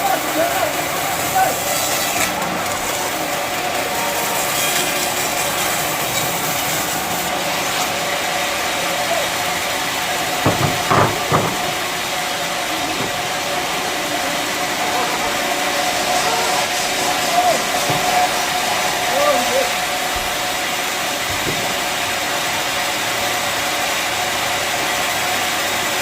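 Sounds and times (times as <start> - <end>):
bandsaw sawmill hissing: 0.0 - 26.0.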